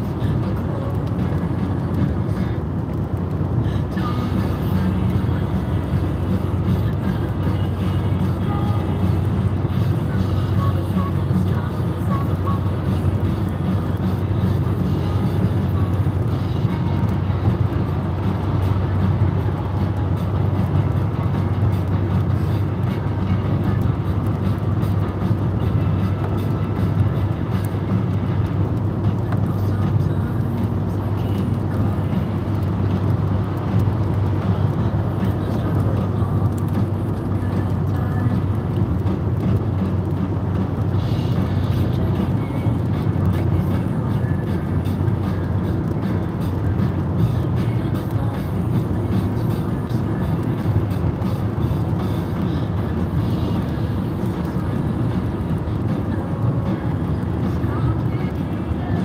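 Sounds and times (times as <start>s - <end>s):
car engine hum inside cabin: 0.0s - 59.0s.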